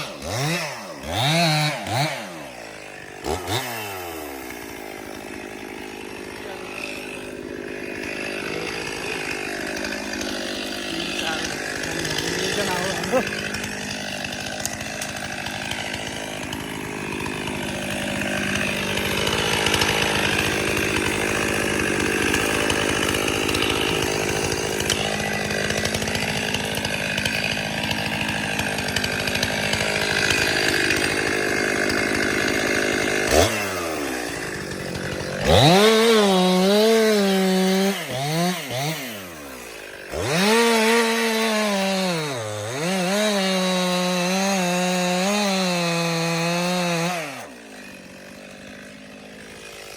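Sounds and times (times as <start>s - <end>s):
chainsaw cutting tree trunk: 0.0s - 49.9s.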